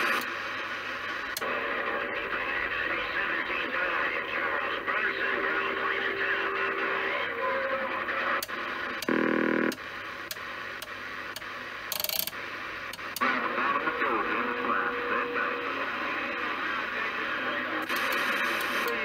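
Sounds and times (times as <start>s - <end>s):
radio static: 0.0s - 19.0s.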